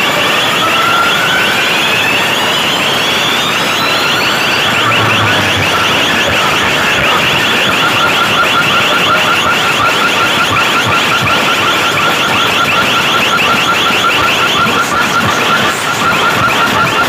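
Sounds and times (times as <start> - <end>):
electronic siren alarm: 0.3 - 17.0.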